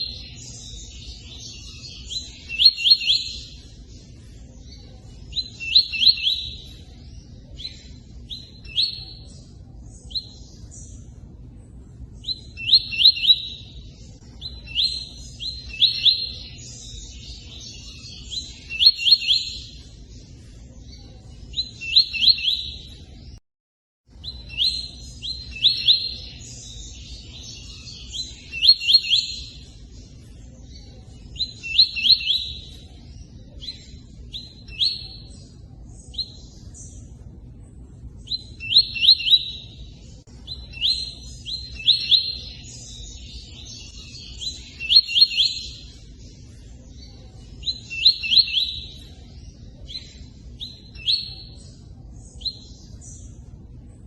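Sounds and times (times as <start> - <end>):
bird chirping song: 0.0 - 23.4, 24.1 - 54.0.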